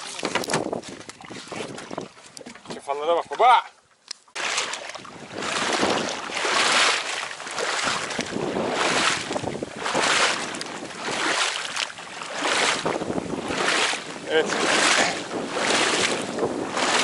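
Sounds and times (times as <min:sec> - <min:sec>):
wind buffeting microphone: 0:00.0 - 0:02.6, 0:05.0 - 0:17.0
water swishing and sloshing: 0:00.0 - 0:17.0.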